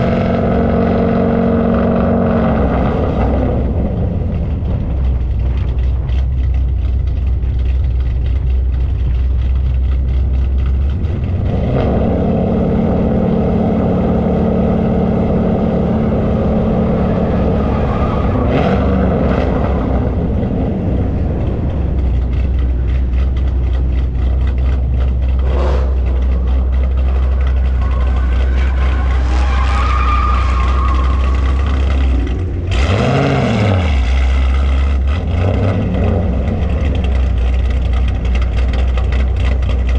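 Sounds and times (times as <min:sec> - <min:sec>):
car engines rumbling: 0:00.0 - 0:39.9.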